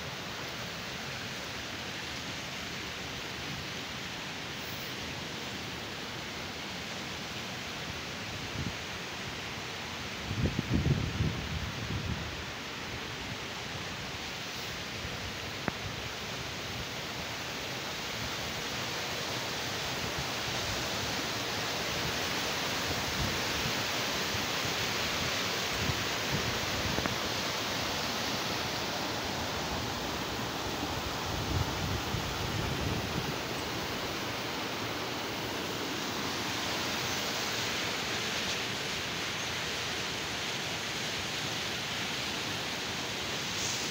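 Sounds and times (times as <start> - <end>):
stream rushing over stones: 0.0 - 43.9.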